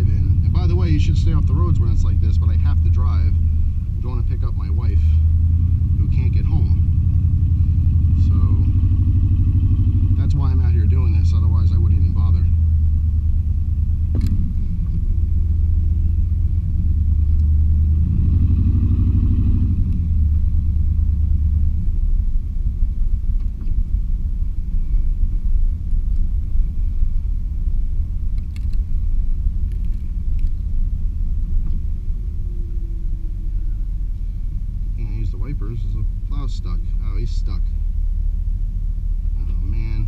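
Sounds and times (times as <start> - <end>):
truck engine and road rumble: 0.0 - 40.0.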